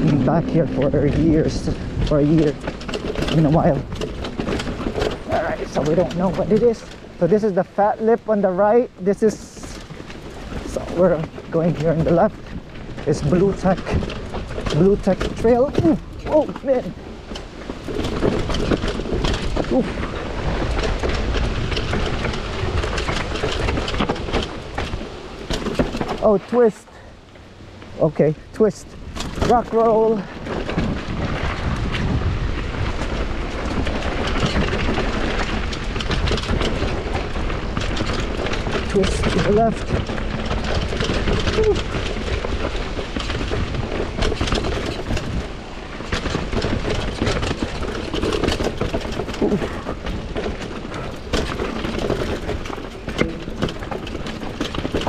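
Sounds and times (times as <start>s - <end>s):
bike chain and frame rattling: 0.0s - 55.0s
low rumble of tyres: 0.0s - 55.0s
wind buffeting microphone: 0.0s - 55.0s.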